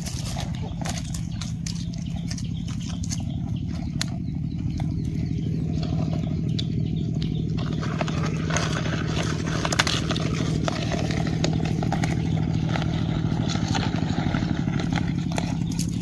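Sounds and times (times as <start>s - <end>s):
engine running steadily: 0.0s - 16.0s
rustles in dry leaves: 0.0s - 16.0s.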